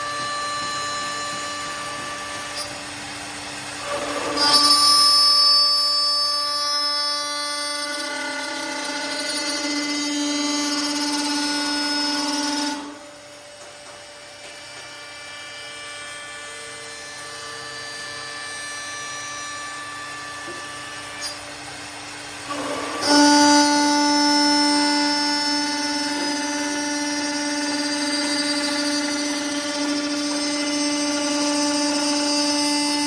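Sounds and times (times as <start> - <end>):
wood lathe whining: 0.0 - 33.0.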